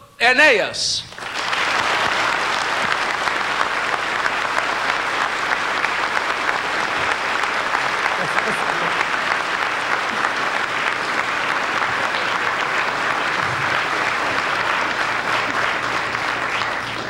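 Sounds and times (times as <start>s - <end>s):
audience applauding: 0.3s - 17.0s.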